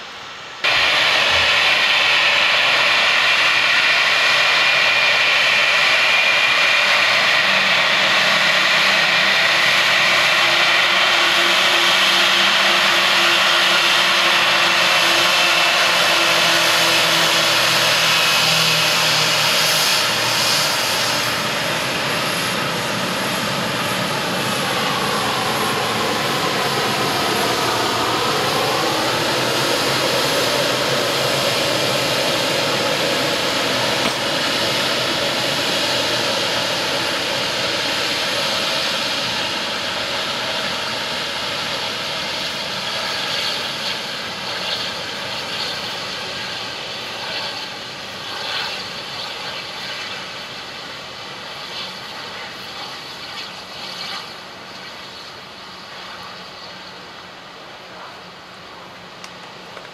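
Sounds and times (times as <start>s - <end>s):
jet engine roar and whine: 0.0s - 59.9s.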